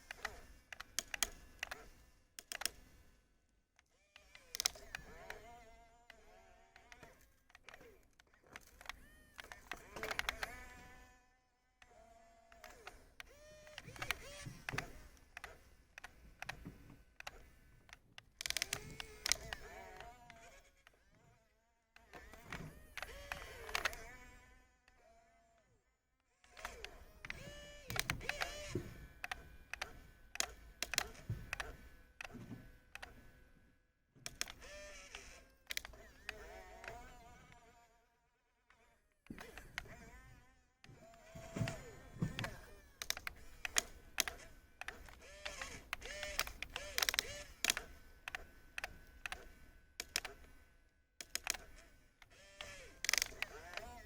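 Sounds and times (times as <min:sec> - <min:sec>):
clicks: 0:00.0 - 0:03.2, 0:03.8 - 0:11.2, 0:11.8 - 0:21.3, 0:22.0 - 0:25.0, 0:26.4 - 0:33.4, 0:34.2 - 0:37.8, 0:38.7 - 0:54.0
small electric motor whining: 0:00.0 - 0:33.6, 0:34.2 - 0:54.0.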